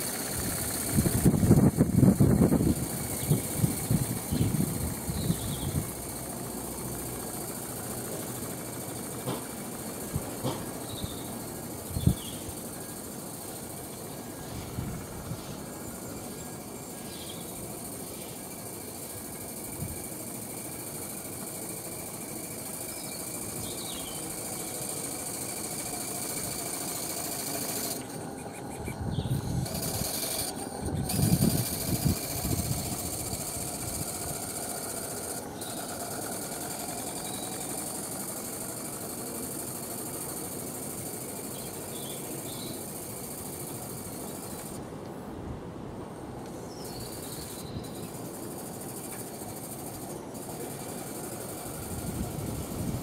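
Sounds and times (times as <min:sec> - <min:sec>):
model steam engine beat: 0:00.0 - 0:45.1, 0:45.7 - 0:53.0
steady background hiss: 0:00.0 - 0:53.0.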